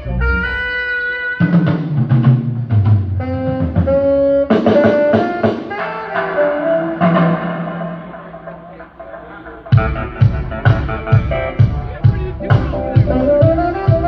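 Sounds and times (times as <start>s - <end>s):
horn line: 0.0s - 14.0s
live band playing: 0.0s - 14.0s.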